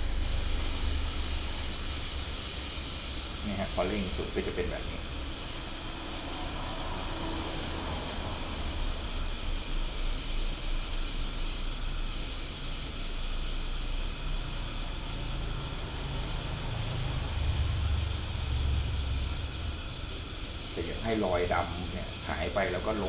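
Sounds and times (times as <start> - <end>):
pressure lantern hissing roar: 0.0 - 23.0.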